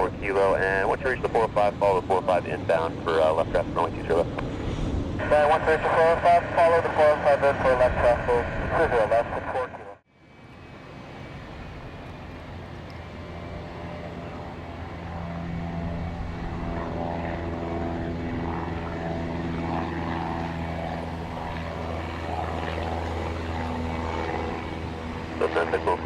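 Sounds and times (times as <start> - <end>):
propeller aircraft engine humming: 0.0 - 9.8, 10.4 - 26.0.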